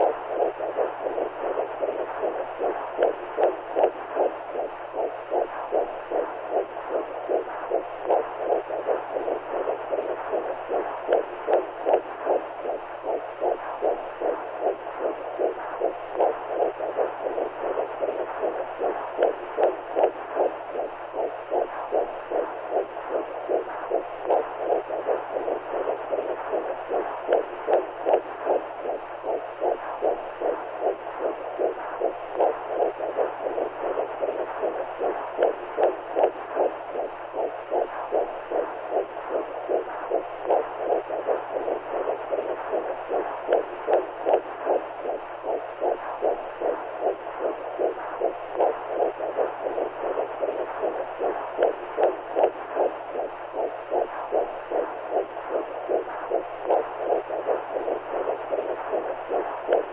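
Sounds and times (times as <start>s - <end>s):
muffled whooshing heartbeat: 0.0s - 59.9s.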